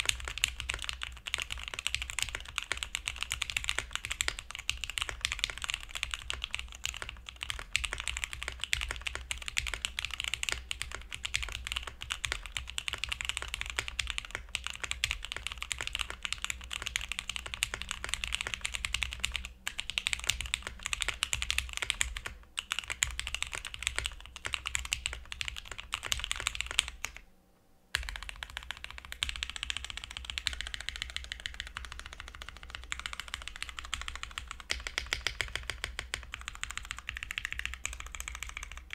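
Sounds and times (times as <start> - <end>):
typing on mechanical keyboard: 0.0 - 27.2, 27.9 - 38.9.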